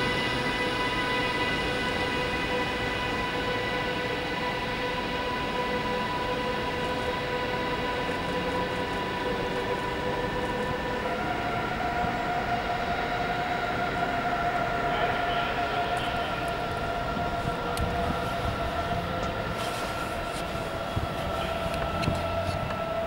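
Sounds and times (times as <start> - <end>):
electric locomotive whining: 0.0 - 23.0.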